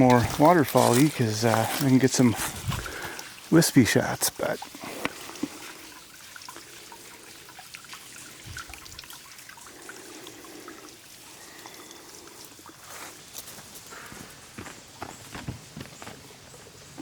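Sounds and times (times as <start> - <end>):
water dripping: 0.0 - 14.1
small waterfall trickling: 0.0 - 17.0.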